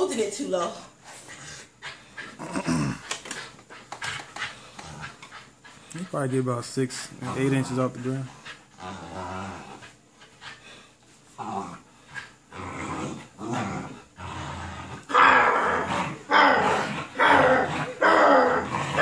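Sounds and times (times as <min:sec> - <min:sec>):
puppy growling in play: 0:01.2 - 0:19.0.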